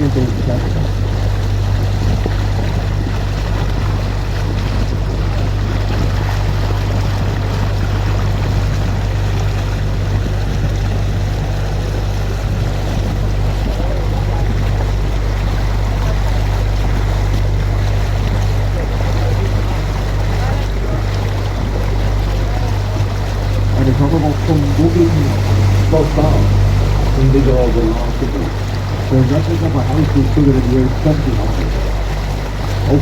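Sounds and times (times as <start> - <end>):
boat motor humming: 0.0 - 33.0
constant rushing noise: 0.0 - 33.0.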